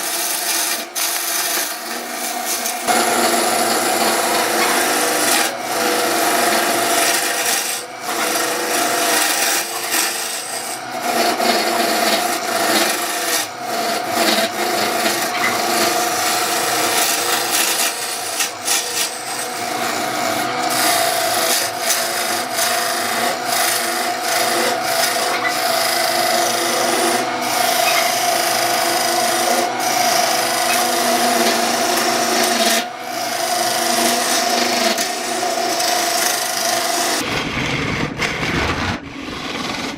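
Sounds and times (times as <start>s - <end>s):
wood lathe motor hum: 0.0s - 37.4s
tool scraping spinning wood: 0.0s - 39.9s.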